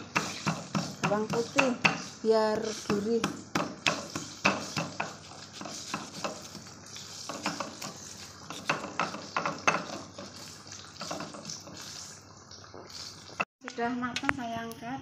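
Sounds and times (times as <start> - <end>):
stone pestle grinding in mortar: 0.0 - 12.2
food sizzling in hot oil: 0.0 - 14.1.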